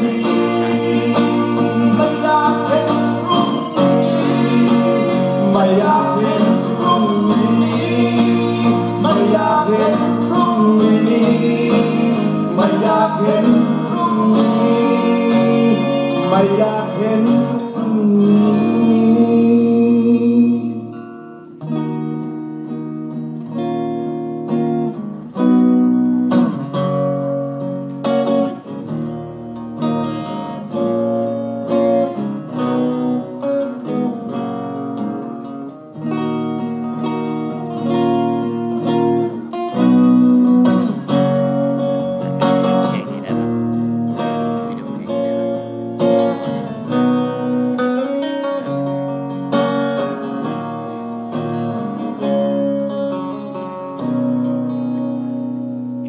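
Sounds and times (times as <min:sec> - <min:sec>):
acoustic guitars playing: 0:00.0 - 0:56.0.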